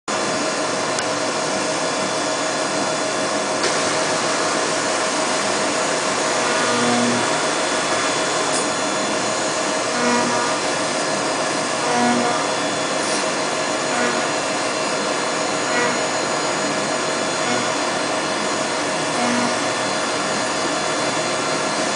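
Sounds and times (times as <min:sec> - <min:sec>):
milling machine cutting metal: 0:00.1 - 0:21.9.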